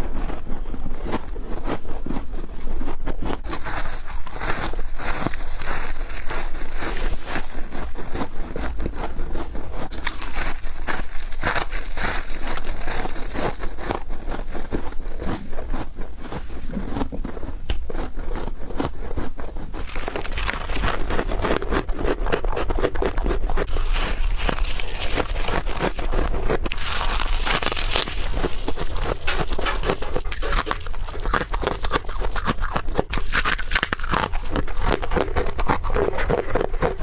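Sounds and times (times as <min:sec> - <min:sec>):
person chewing crunchy frost: 0:00.0 - 0:37.0.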